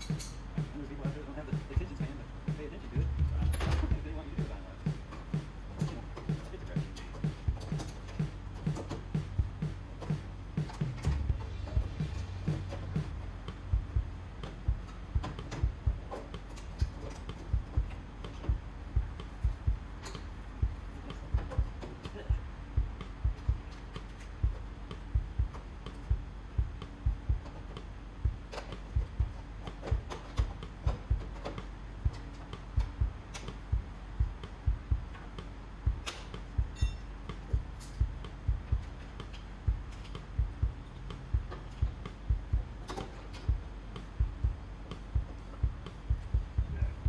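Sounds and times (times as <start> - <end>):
deep thuds: 0.0 - 47.0.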